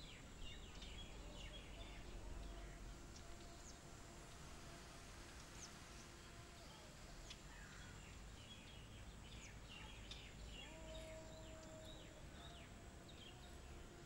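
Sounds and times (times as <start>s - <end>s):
small birds chirping: 0.0s - 4.4s, 5.4s - 14.0s.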